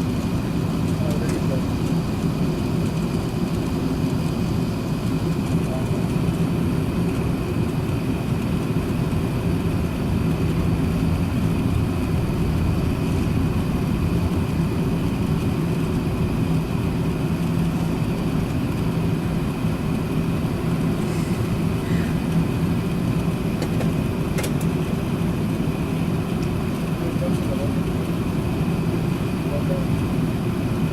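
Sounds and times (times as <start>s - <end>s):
aircraft cabin rumble and hum: 0.0s - 30.9s.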